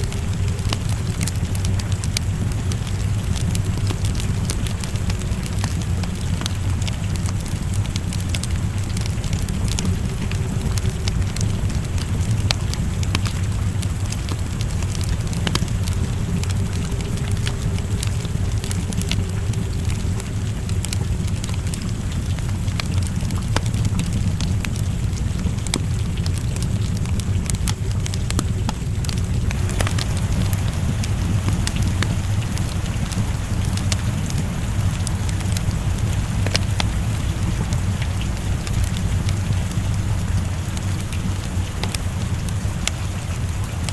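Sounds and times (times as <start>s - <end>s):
low rumble: 0.0s - 43.9s
rain falling: 0.0s - 43.9s
wood fire crackling and popping: 0.0s - 43.9s.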